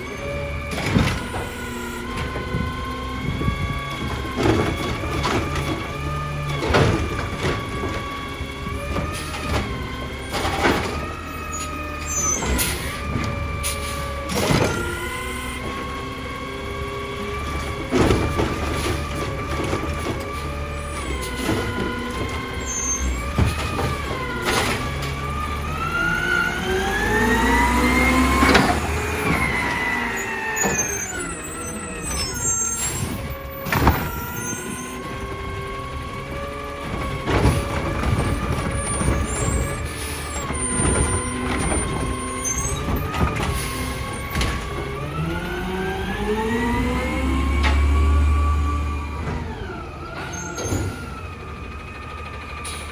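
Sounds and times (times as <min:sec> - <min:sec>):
garbage truck engine and hydraulics: 0:00.0 - 0:52.9.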